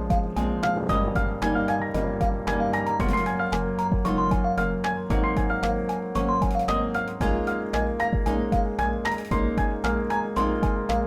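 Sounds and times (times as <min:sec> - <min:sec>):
bright synth melody: 0:00.0 - 0:11.0
drum machine kick and snare: 0:00.0 - 0:11.0.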